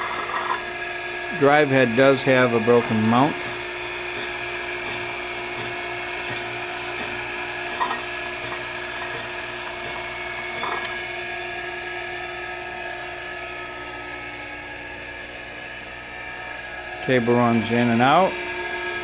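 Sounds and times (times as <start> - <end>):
grinder motor whine: 0.0 - 19.0.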